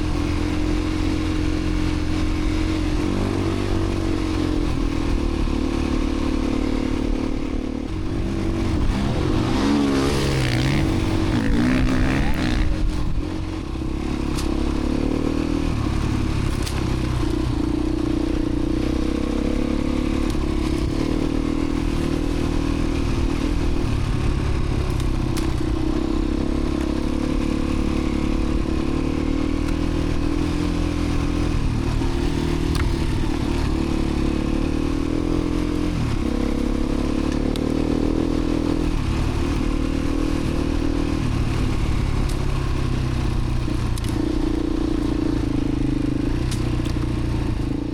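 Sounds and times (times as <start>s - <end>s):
dirt bike engine running: 0.0s - 47.9s.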